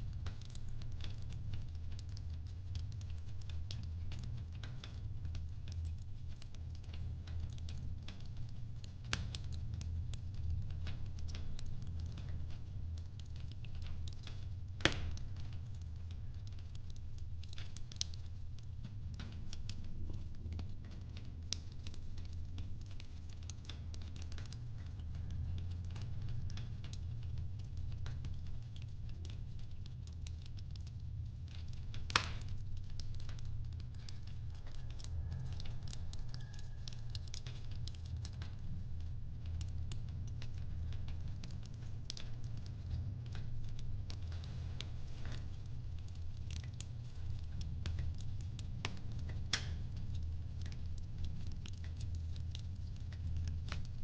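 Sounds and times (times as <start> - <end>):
wood fire crackling in a fireplace: 0.0 - 54.0.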